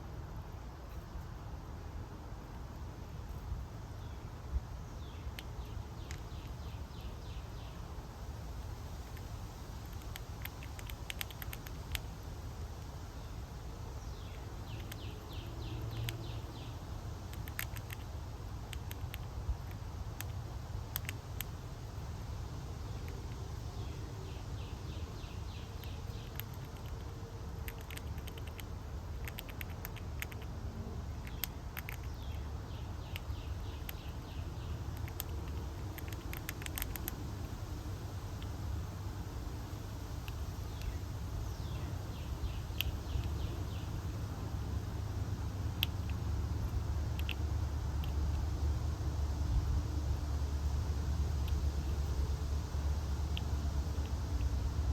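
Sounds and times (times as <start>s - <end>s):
low outdoor rumble: 0.0s - 54.9s
squirrel gnawing: 0.5s - 54.9s.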